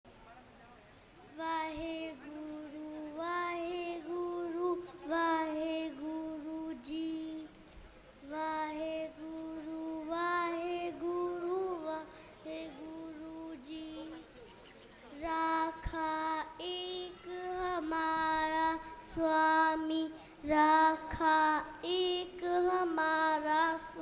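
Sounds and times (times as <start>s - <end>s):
boy singing into a microphone: 1.4s - 14.3s, 15.1s - 24.0s.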